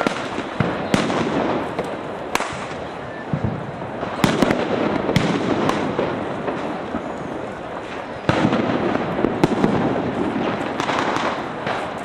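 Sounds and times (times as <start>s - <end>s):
firecracker bangs: 0.0s - 12.0s
firecrackers crackling: 0.0s - 12.0s.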